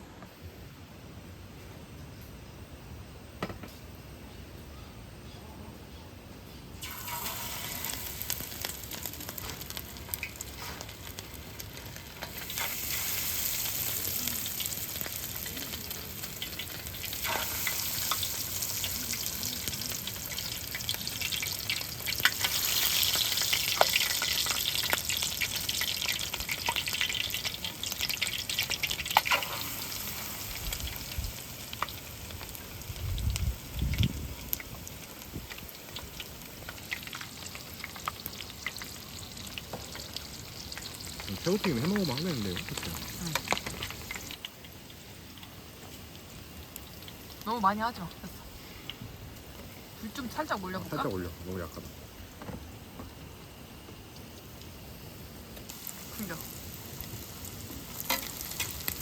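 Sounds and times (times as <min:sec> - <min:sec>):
food sizzling in a hot pan: 0:06.8 - 0:59.0.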